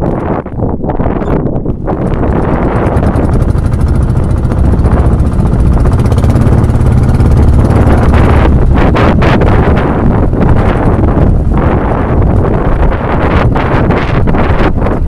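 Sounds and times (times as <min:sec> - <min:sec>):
boat engine droning: 0:01.8 - 0:15.0.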